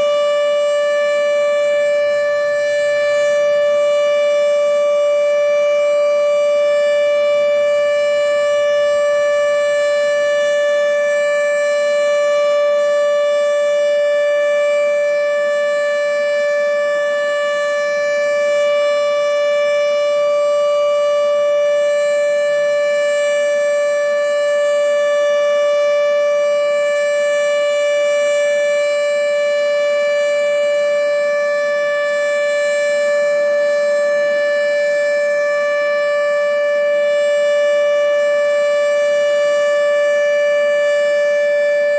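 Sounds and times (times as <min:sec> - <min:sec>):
warning siren steady tone: 0:00.0 - 0:41.9.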